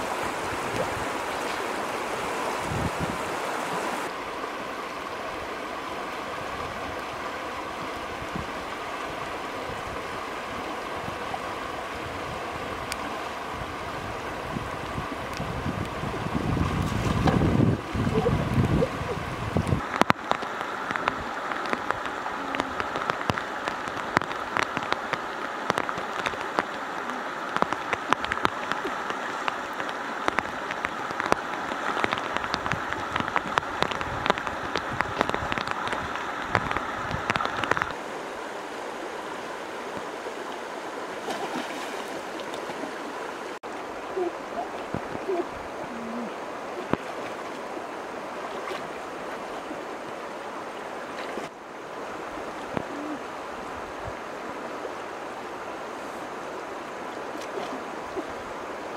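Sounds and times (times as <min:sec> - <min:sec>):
water splashing: 0:00.0 - 0:38.7, 0:39.4 - 0:53.3, 0:57.0 - 0:58.9
river water rushing over stones: 0:00.0 - 0:58.9.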